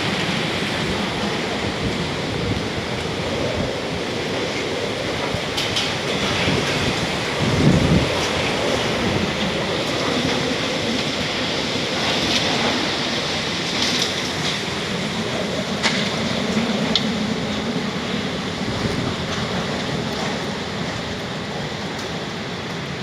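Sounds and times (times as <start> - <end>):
wind with heavy rain: 0.0 - 23.0.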